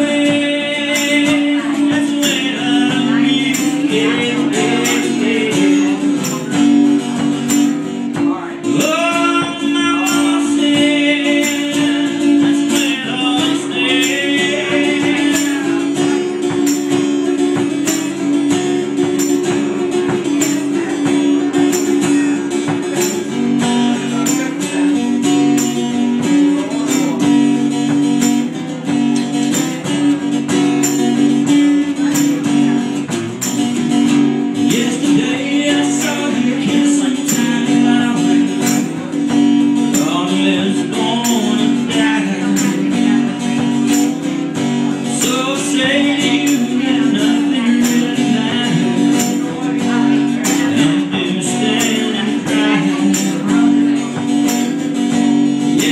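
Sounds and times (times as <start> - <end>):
acoustic guitars strumming: 0.0 - 55.9.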